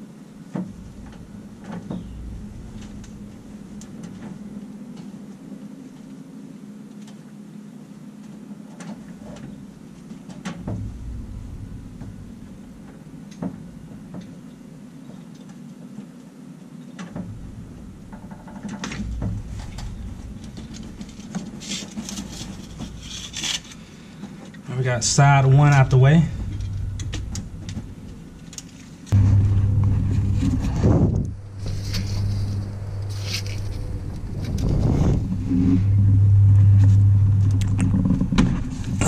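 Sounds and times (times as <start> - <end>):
low hum: 0.0 - 6.6, 9.0 - 14.8, 17.1 - 39.0.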